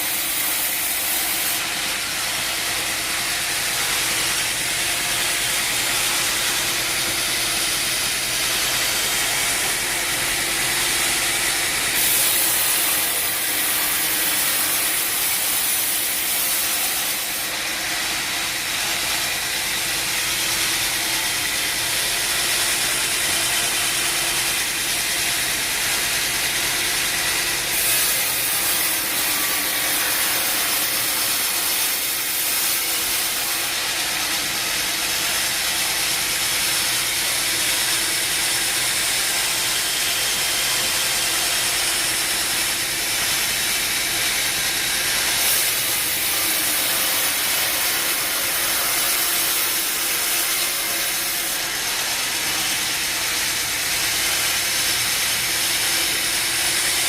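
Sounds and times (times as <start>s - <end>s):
wood-cutting machine grinding: 0.0s - 57.0s.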